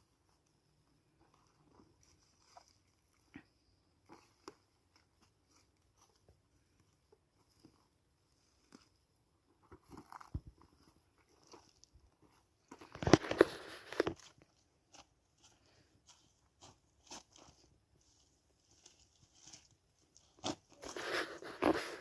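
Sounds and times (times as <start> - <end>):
faint clicks and crackles: 0.2 - 22.0.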